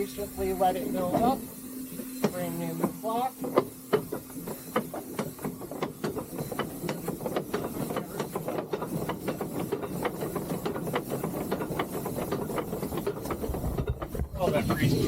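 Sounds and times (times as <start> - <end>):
locomotive clanks and clicks: 0.0 - 15.0
steam hissing: 0.0 - 15.0.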